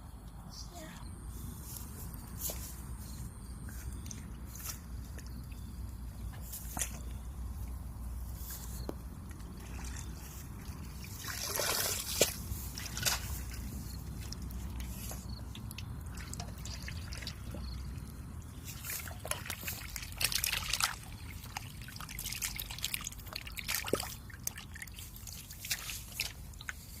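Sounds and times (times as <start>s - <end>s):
water trickling and dripping: 3.6s - 27.0s
small water splashes: 4.0s - 27.0s.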